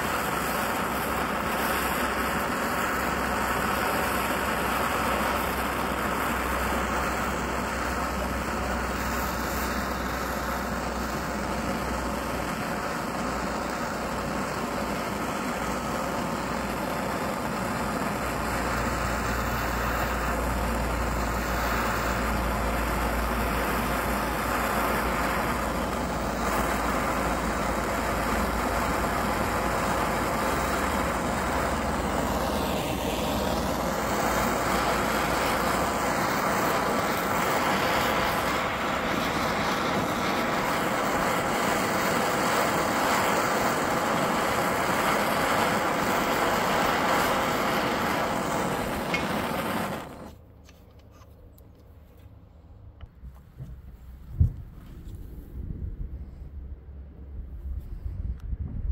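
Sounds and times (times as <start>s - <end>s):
gas torch flame hissing: 0.0s - 50.4s.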